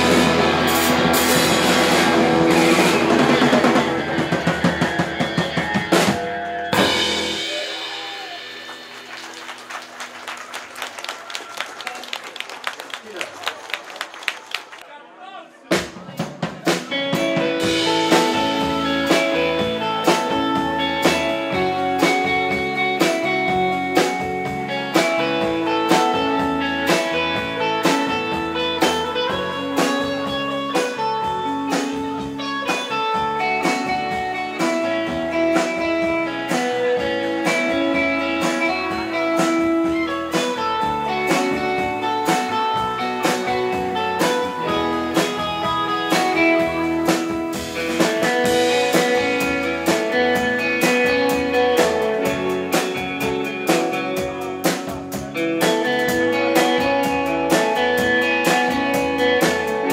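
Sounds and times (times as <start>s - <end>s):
electric guitar melody: 0.0s - 9.5s, 16.7s - 59.9s
drum kit beat: 0.0s - 10.8s, 15.7s - 59.9s.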